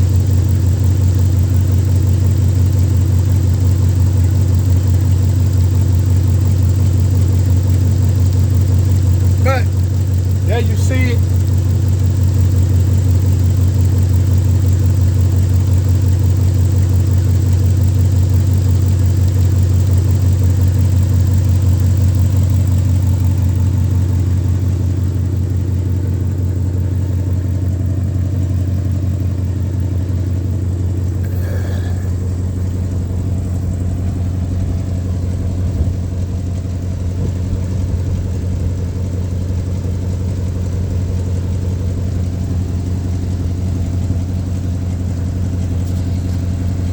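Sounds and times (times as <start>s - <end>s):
pickup engine idling: 0.0s - 46.9s.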